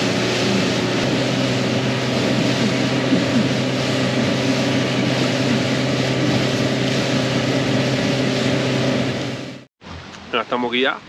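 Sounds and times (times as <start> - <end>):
motorboat engine drone: 0.0 - 10.2
water rushing: 0.0 - 11.0.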